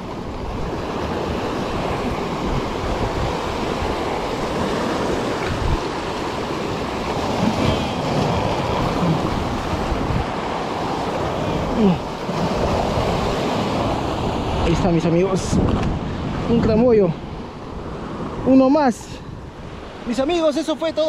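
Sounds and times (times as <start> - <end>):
wind rumbling on microphone: 0.0 - 20.1
ocean surf breaking on rocks: 0.0 - 21.0.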